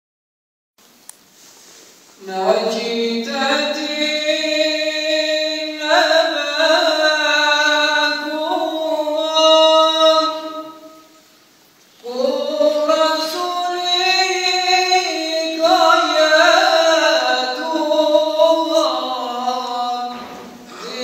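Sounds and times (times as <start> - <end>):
man singing unaccompanied: 2.2 - 11.2, 12.0 - 21.0.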